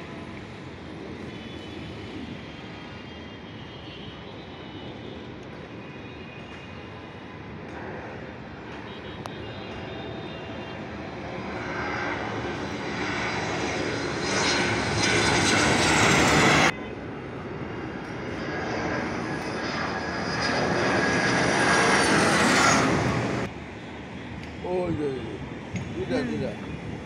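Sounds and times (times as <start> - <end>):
jet engine passing overhead: 0.0 - 27.0.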